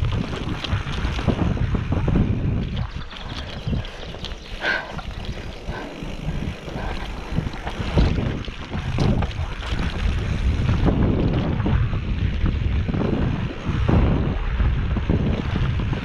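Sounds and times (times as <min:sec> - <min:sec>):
bike knocks and rattles: 0:00.0 - 0:16.0
bike tyre rumble on dirt: 0:00.0 - 0:16.0
wind buffeting microphone: 0:00.0 - 0:16.0.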